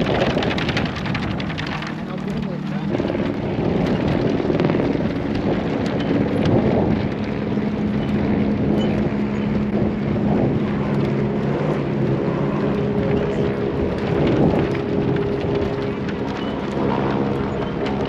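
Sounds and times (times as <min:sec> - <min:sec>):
vehicle engine running: 0:00.0 - 0:18.0
wind buffeting microphone: 0:00.0 - 0:18.0.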